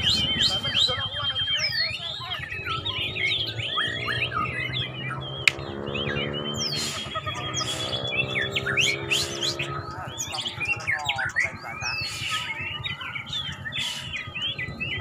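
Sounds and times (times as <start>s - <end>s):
birds whistling and chirping: 0.0s - 15.0s.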